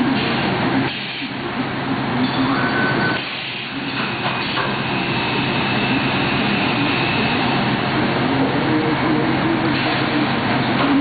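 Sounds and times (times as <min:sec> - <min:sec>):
machine and conveyor running: 0:00.0 - 0:11.0
steady high whine: 0:00.0 - 0:11.0.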